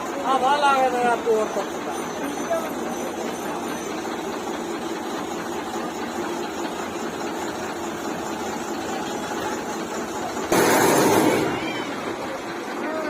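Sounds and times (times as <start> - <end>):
heavy vehicle engine under load: 0.0 - 13.0.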